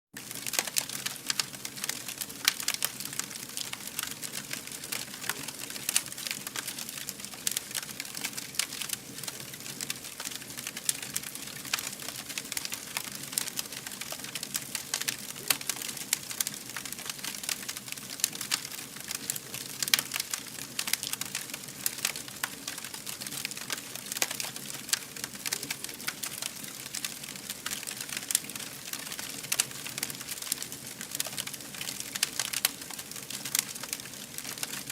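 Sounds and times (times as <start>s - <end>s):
wood fire crackling: 0.2s - 34.9s.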